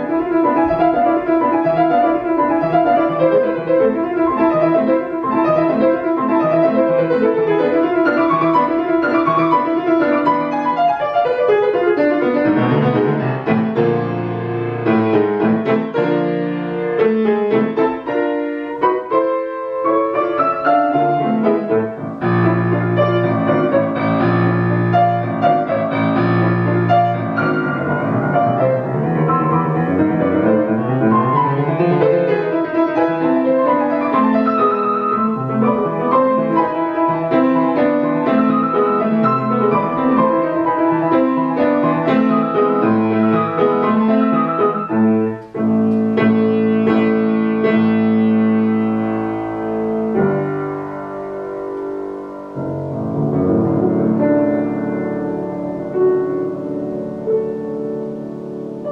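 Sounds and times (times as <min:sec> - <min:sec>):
solo grand piano classical music: 0:00.0 - 0:58.9.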